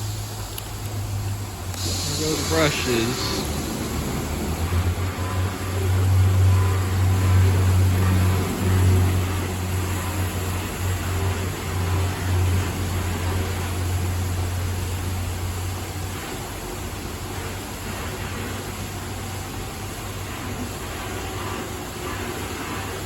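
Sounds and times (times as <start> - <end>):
car wash brushes spinning: 0.0 - 23.0.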